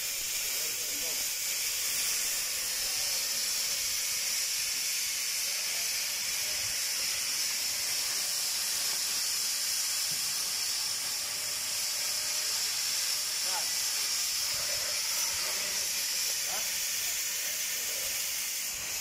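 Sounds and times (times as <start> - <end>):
cutting torch hissing: 0.0 - 19.0.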